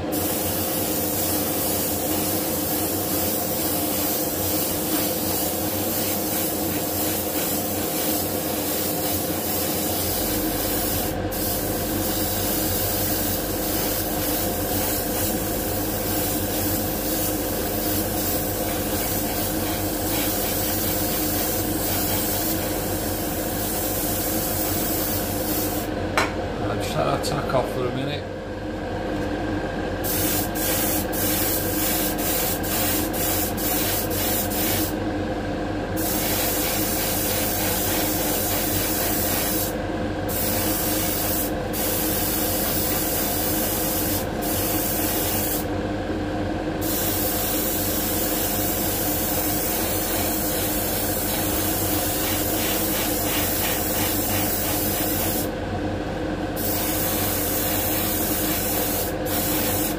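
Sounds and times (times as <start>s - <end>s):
steady motor hum: 0.0s - 59.9s
spray gun hissing: 0.1s - 25.9s, 30.0s - 35.0s, 36.0s - 45.7s, 46.8s - 55.5s, 56.6s - 59.9s.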